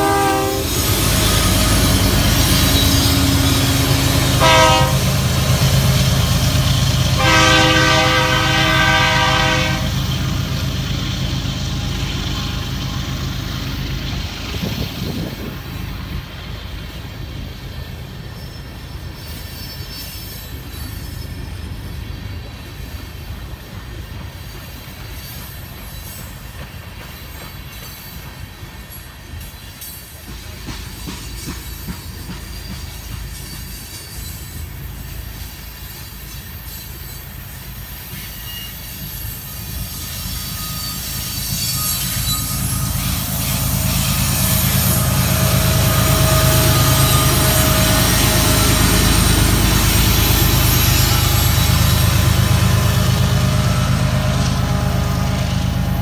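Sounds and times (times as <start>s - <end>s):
diesel locomotive engine drone: 0.0s - 56.0s
steel wheels rumbling on rails: 0.0s - 56.0s.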